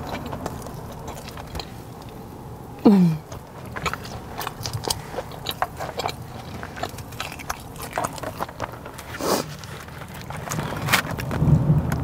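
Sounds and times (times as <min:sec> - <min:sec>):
crisp batter crunching: 0:00.0 - 0:02.6, 0:03.2 - 0:12.0.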